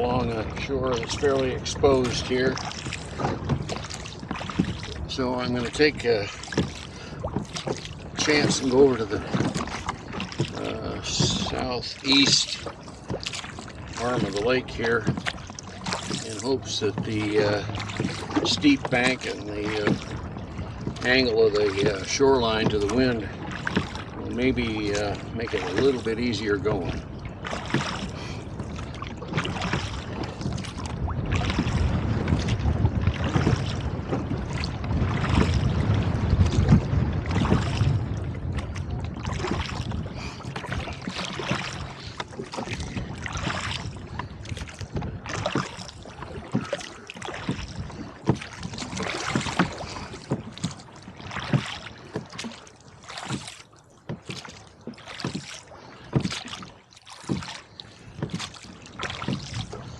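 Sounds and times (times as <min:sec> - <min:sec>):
wind on microphone: 0:00.0 - 0:52.6, 0:58.1 - 0:59.9
water slapping against hull: 0:00.0 - 0:59.9.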